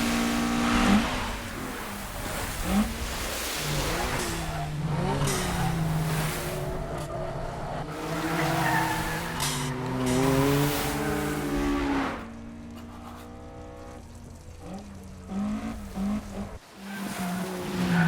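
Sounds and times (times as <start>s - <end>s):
sports car engines revving: 0.0s - 18.0s.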